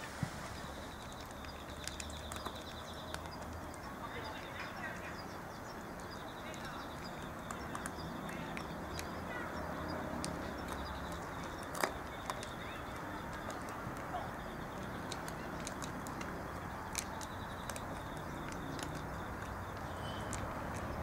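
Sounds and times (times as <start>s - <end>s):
steady outdoor hiss: 0.0s - 21.0s
cat crunching food: 0.8s - 21.0s.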